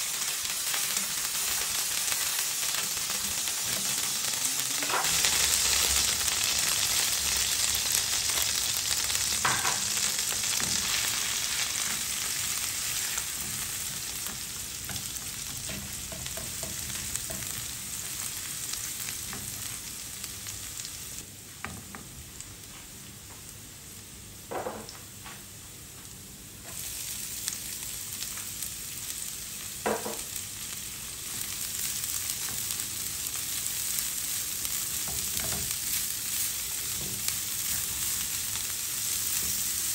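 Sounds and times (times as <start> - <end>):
oil sizzling in frying pan: 0.0 - 39.9.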